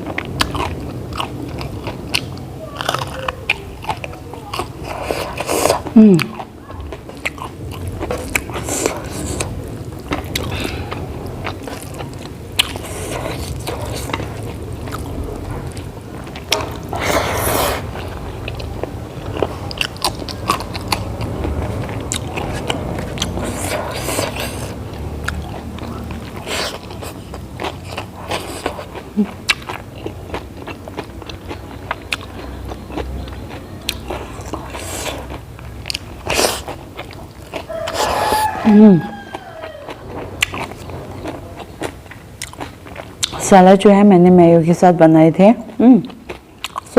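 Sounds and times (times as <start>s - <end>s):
person chewing food: 0.0s - 43.4s, 46.0s - 46.9s.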